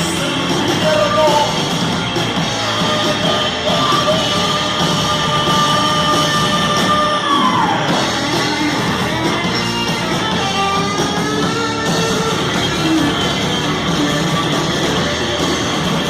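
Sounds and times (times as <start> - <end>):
electric guitar: 0.0 - 16.0
heavy metal band playing: 0.0 - 16.0.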